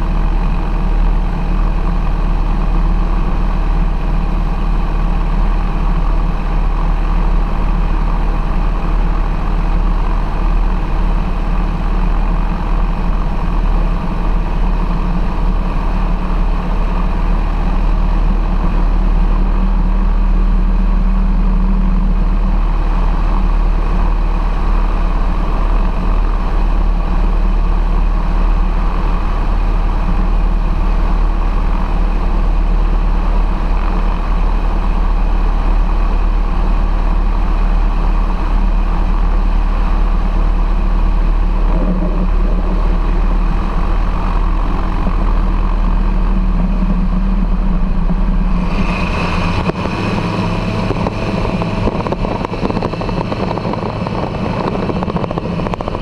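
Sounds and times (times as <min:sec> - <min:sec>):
propeller engine running: 0:00.0 - 0:56.0.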